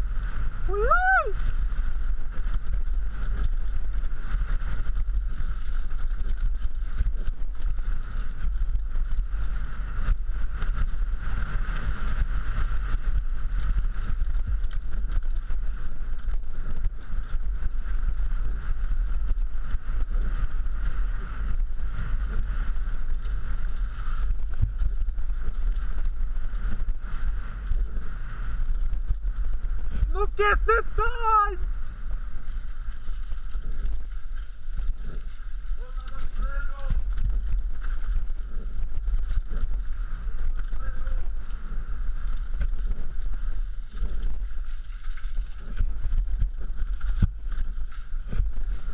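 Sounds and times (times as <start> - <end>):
wind rumble on microphone: 0.0 - 48.9
bike rattling and knocking: 1.4 - 30.1, 31.7 - 48.9.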